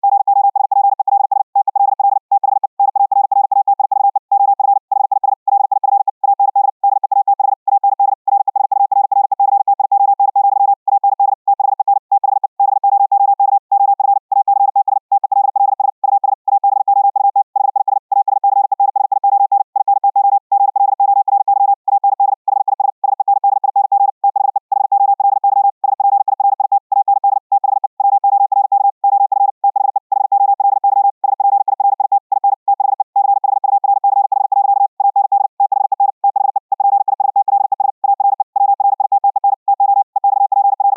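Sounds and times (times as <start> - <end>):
fast morse code tone: 0.0 - 40.9.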